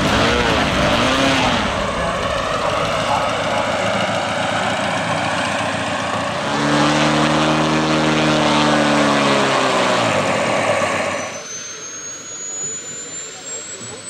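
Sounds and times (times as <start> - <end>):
high rising whine: 0.0 - 14.0
model plane engine running: 0.0 - 14.0.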